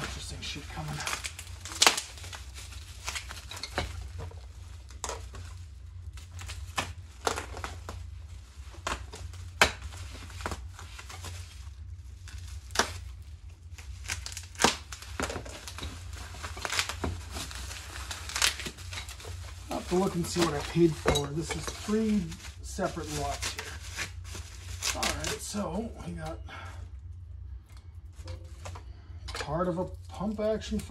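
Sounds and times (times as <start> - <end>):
plastic packaging crinkling: 0.0 - 26.0, 28.0 - 30.9.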